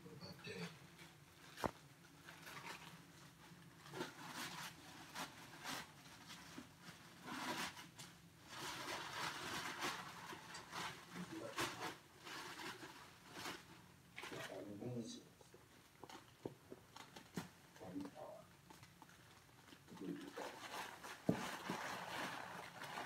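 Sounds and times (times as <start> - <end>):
plastic bag rustling: 0.5 - 15.1, 15.7 - 23.0.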